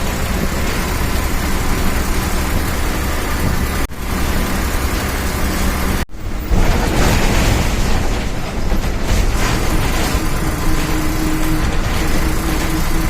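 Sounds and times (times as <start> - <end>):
bus engine rumble: 0.0 - 13.0
road and tyre noise: 0.0 - 13.0.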